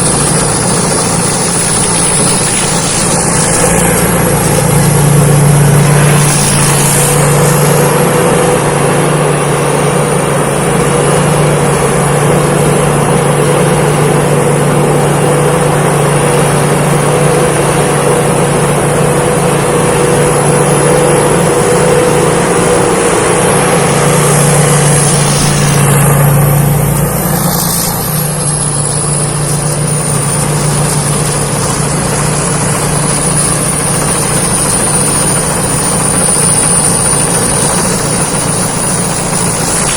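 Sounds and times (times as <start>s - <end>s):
combine harvester engine drone: 0.0s - 39.9s
high whine: 0.0s - 39.9s.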